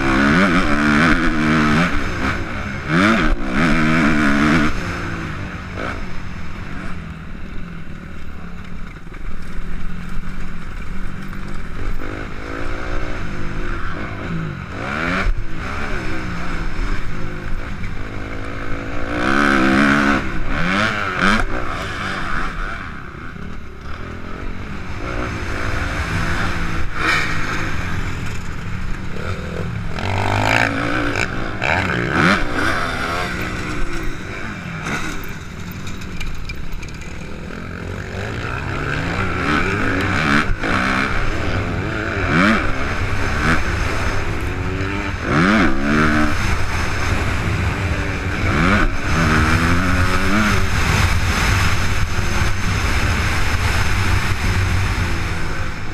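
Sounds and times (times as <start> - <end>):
motocross bike engine revving: 0.0 - 55.9
steady rushing noise: 0.0 - 55.9.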